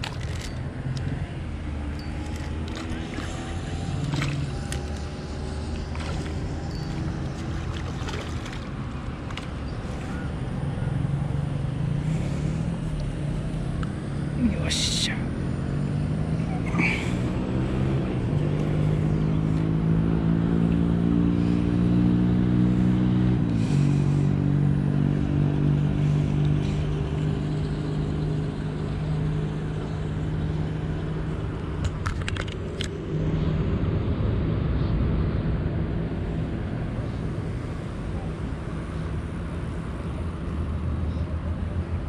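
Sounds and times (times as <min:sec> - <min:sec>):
engine drone: 0:00.0 - 0:42.0.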